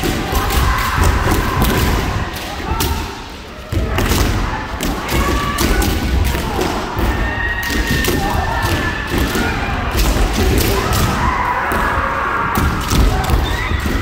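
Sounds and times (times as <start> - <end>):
people shouting: 0.0 - 14.0.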